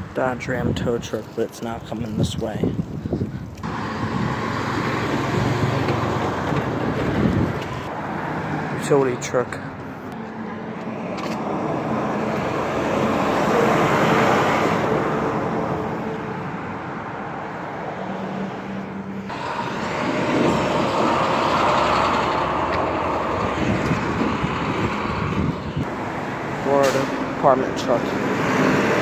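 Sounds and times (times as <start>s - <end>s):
trucks passing: 0.0s - 29.0s.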